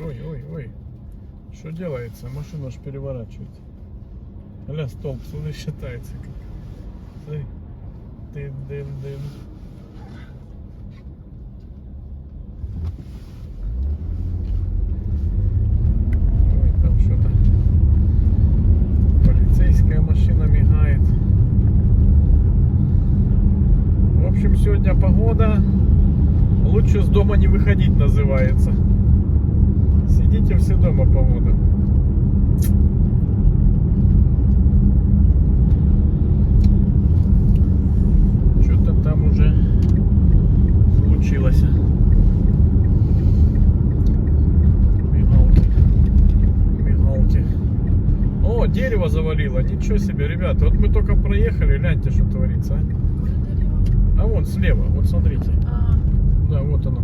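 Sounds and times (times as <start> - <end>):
car interior rumble: 0.0 - 57.0
gusty wind buffeting car: 9.1 - 57.0.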